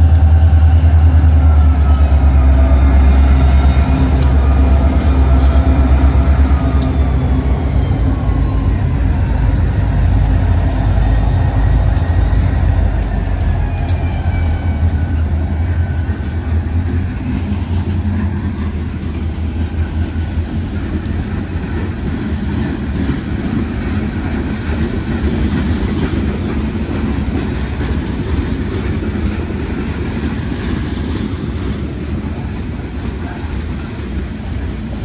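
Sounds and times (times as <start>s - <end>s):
diesel locomotive engine drone: 0.0s - 35.0s
freight cars rumbling and rattling: 0.0s - 35.0s.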